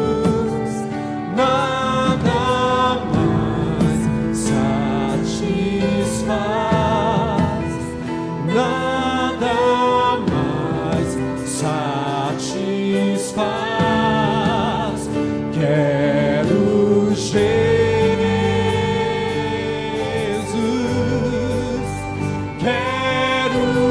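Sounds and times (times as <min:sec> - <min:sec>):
church band playing: 0:00.0 - 0:23.9
person singing long notes: 0:00.0 - 0:23.9.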